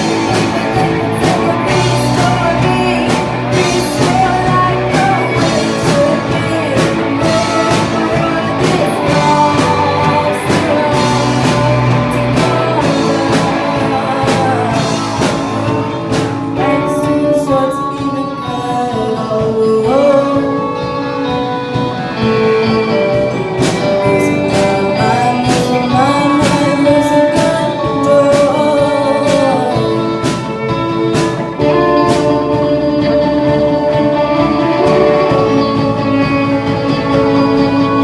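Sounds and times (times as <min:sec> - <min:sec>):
guitar: 0:00.0 - 0:38.0
person singing: 0:00.0 - 0:38.0
steady drum beat: 0:00.0 - 0:38.0.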